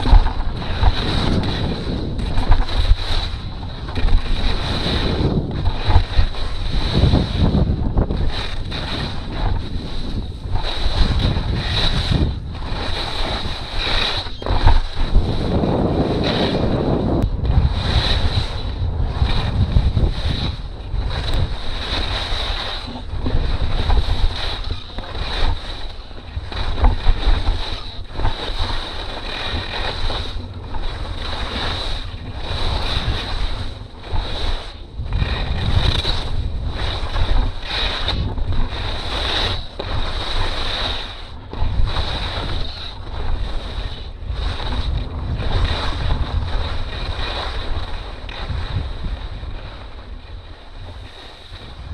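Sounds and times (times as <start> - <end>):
skis scraping on hard snow: 0.0 - 51.9
wind rushing over microphone: 0.0 - 51.9.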